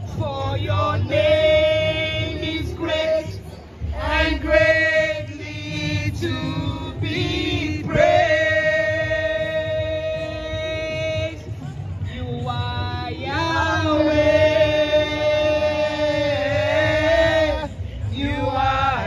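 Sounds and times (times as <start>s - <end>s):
man and woman singing along: 0.0s - 19.0s.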